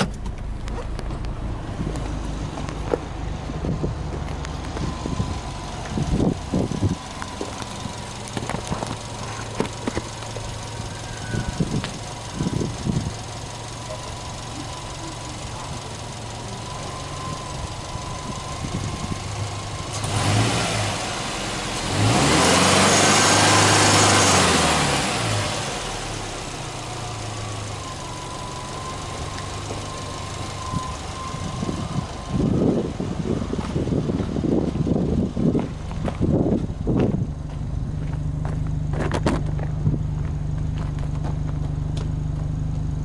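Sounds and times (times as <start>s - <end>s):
car engine idling and revving: 0.0s - 43.0s.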